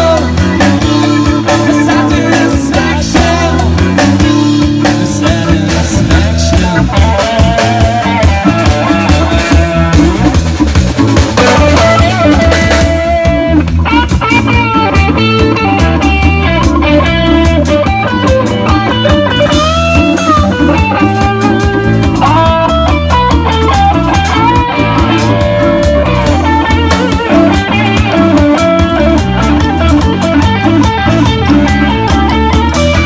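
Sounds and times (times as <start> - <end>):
bass guitar: 0.0 - 33.0
drums with steady cymbal beat: 0.0 - 33.0
electric guitar lead: 0.0 - 33.0.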